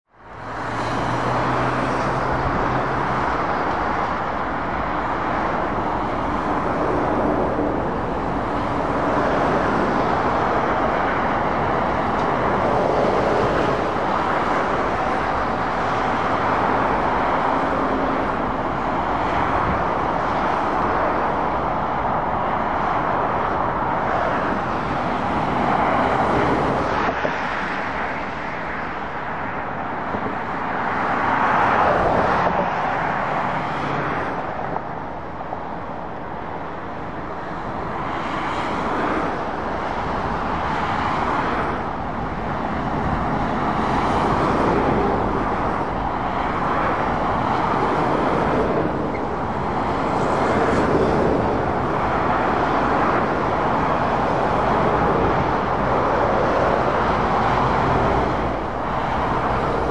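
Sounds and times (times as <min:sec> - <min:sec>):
motorway traffic: 0:00.0 - 0:59.9.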